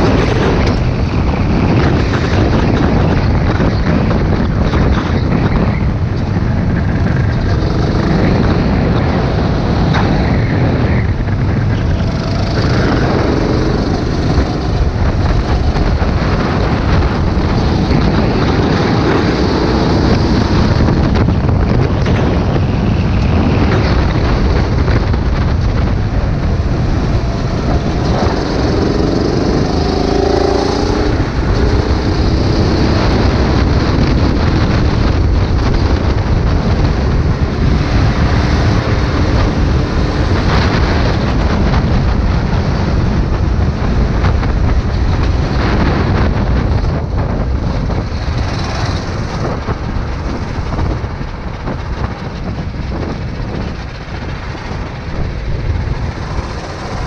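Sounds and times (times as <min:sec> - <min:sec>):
go-kart engine racing: 0:00.0 - 0:57.0
wind rush over microphone: 0:00.0 - 0:57.0.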